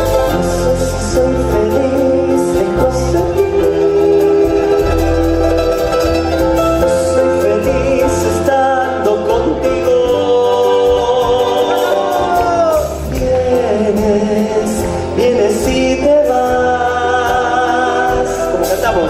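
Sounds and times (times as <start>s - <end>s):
percussion beat: 0.0s - 19.0s
person singing: 0.0s - 19.0s
plucked strings: 0.0s - 19.0s.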